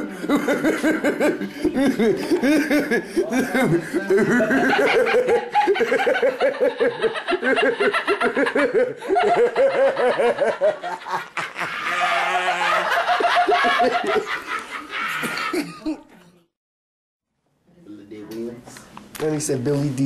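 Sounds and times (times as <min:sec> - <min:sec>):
men laughing together: 0:00.0 - 0:16.1.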